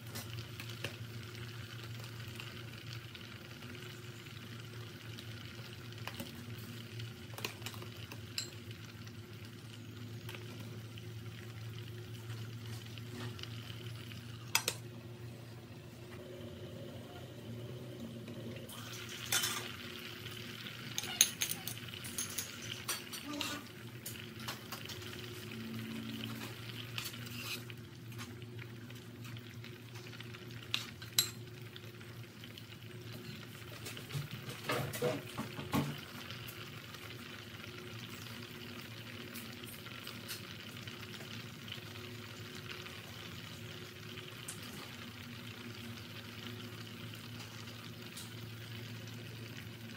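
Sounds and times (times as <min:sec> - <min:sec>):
low steady hum: 0:00.0 - 0:40.1.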